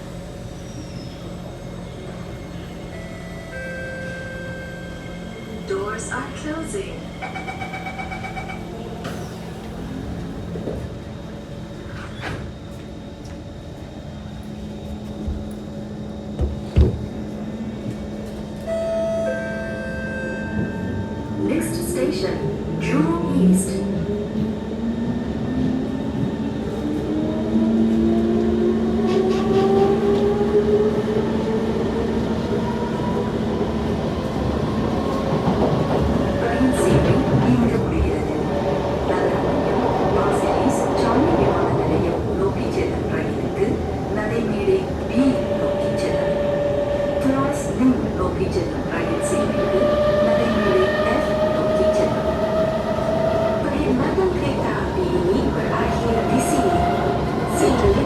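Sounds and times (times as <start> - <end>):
train running noise: 0.0 - 58.0.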